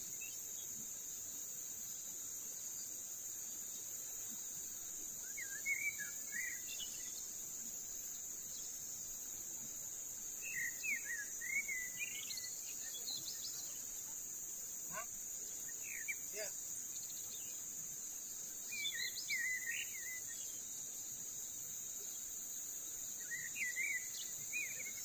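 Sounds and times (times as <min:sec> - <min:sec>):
forest insects droning: 0:00.0 - 0:25.0.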